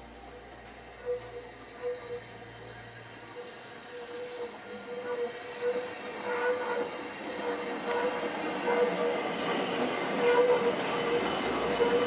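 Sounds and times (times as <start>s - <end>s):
steady wavering whine: 0.0s - 12.0s.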